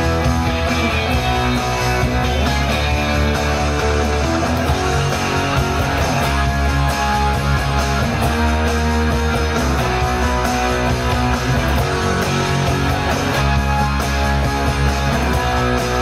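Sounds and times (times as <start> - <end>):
bass: 0.0 - 16.0
drum beat: 0.0 - 16.0
electric guitar playing rock: 0.0 - 16.0.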